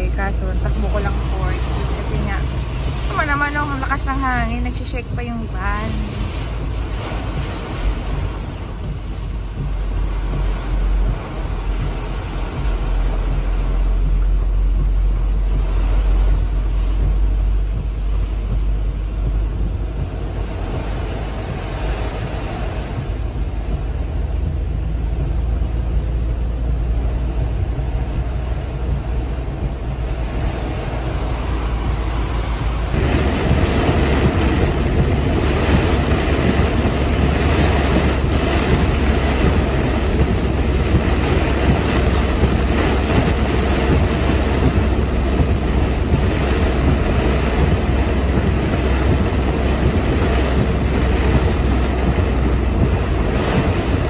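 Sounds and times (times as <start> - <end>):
heavy rain on vehicle: 0.0 - 54.0
tyres on flooded road: 0.0 - 54.0
wind buffeting van: 0.0 - 54.0.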